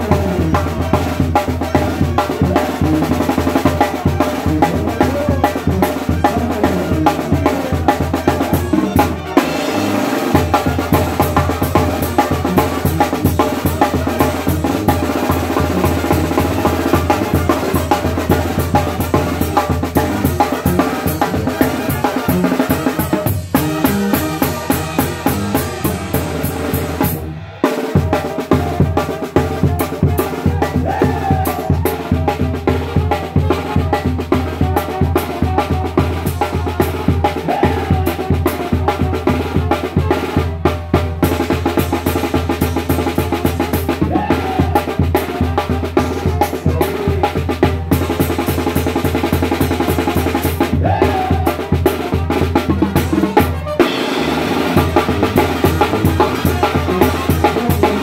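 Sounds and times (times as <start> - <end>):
brass band playing: 0.0 - 58.0
snare drum strokes and rolls: 0.0 - 58.0.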